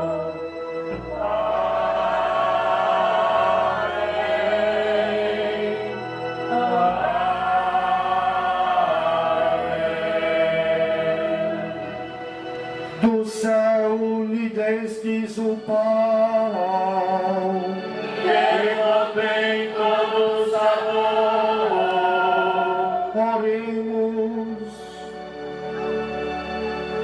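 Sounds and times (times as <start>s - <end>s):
person singing a hymn over microphone: 0.0s - 11.9s, 12.9s - 25.1s.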